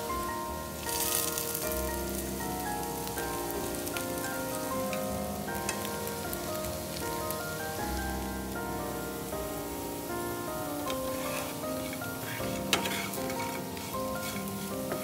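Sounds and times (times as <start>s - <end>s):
background music: 0.0s - 15.0s
food sizzling in hot oil: 0.0s - 15.0s.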